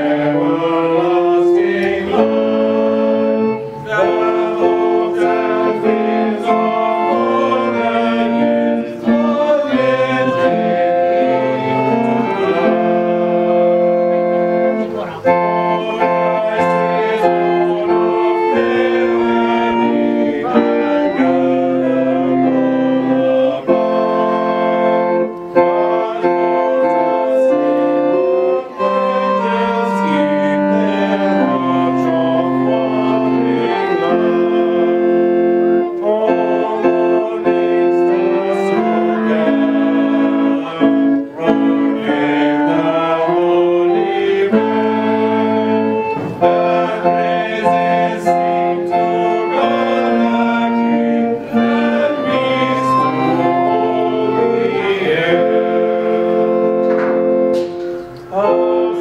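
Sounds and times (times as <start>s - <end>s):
keyboard organ chords: 0.0s - 59.0s.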